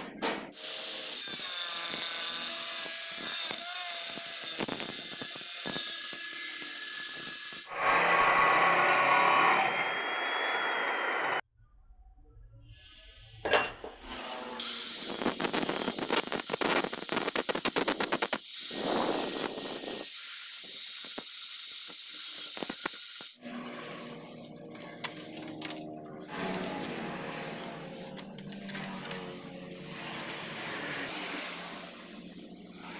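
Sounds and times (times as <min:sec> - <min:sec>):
angle grinder cutting steel: 0:00.6 - 0:11.4, 0:14.0 - 0:31.6.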